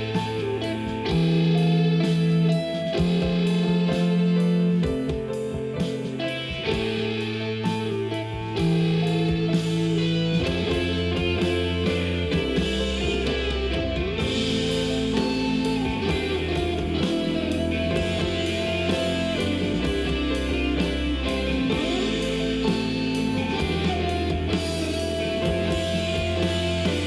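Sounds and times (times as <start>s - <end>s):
rock music with electric guitar: 0.0s - 27.0s.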